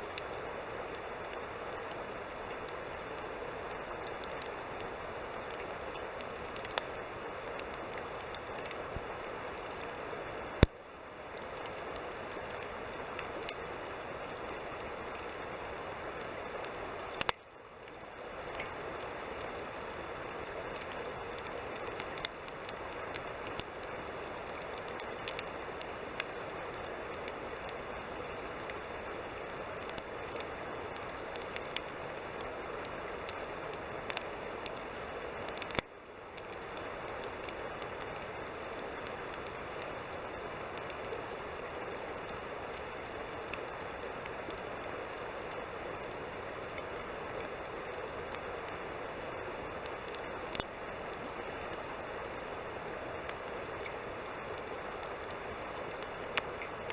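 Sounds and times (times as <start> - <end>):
campfire hissing: 0.0 - 56.9
fire crackles and pops: 0.0 - 56.9.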